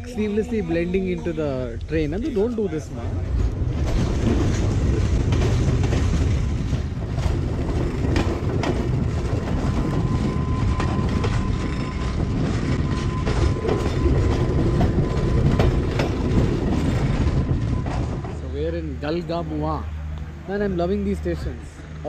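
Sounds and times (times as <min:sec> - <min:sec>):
train wheels rumbling: 0:00.0 - 0:22.0
wheels clicking over rail joints: 0:01.7 - 0:19.7.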